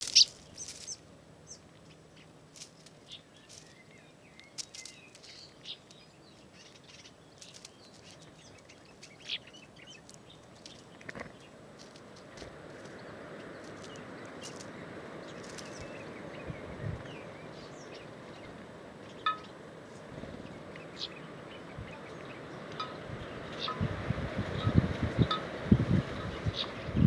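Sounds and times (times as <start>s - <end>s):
small birds calling and chirping: 0.0s - 27.0s.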